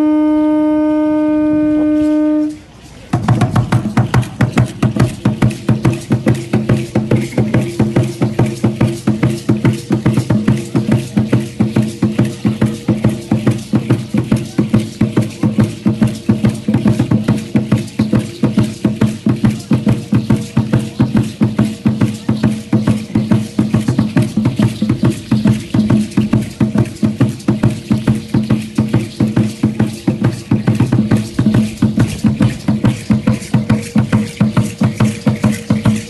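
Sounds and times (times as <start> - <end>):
clicking percussion: 1.8 - 36.0
fast drumbeat: 3.1 - 36.0.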